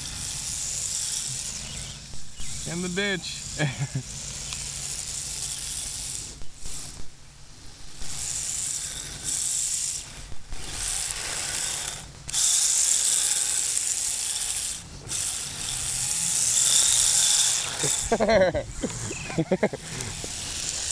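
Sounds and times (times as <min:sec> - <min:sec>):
small electric motor whirring: 0:00.0 - 0:20.9.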